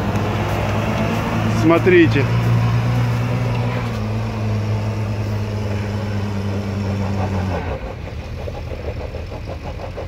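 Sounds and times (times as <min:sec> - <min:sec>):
off-road vehicle engine under load: 0:00.0 - 0:10.0.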